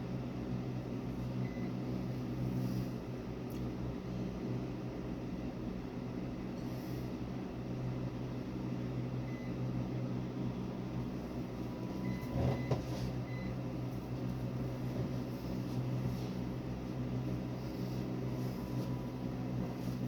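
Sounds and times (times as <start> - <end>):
electrical motor hum: 0.0 - 20.0.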